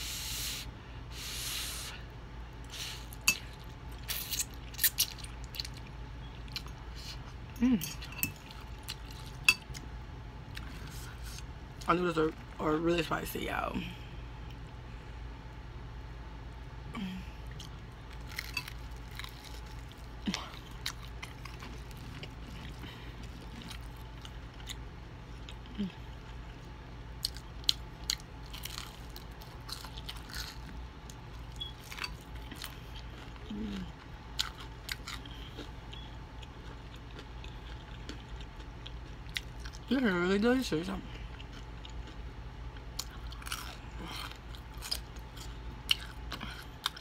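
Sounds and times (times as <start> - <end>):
low hum: 0.0 - 47.0
chewing crispy fried chicken: 2.6 - 12.6, 17.0 - 47.0.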